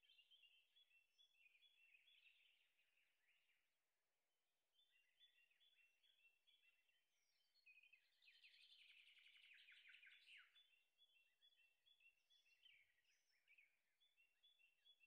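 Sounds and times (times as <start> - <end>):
birds chirping and twittering: 0.0 - 3.8, 4.7 - 15.0.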